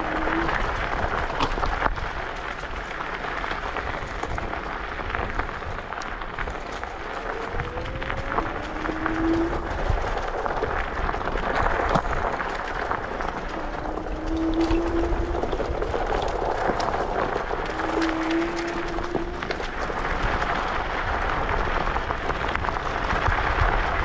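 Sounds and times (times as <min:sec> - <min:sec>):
tyres and wind hissing: 0:00.0 - 0:24.0.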